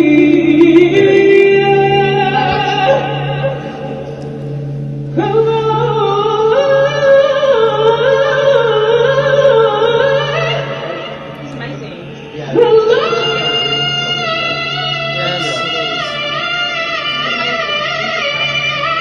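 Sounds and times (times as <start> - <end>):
man singing operatic notes: 0.0 - 4.3, 5.1 - 11.4, 12.2 - 19.0
backing music: 0.0 - 19.0.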